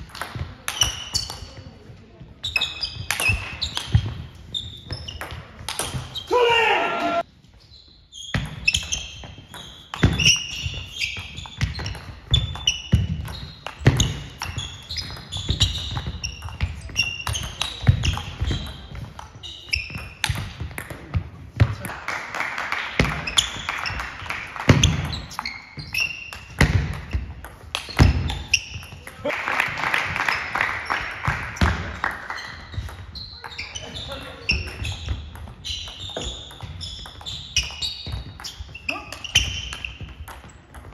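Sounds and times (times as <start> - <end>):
shoes squeaking on floor: 0.0 - 21.6, 23.0 - 29.3, 30.1 - 40.9.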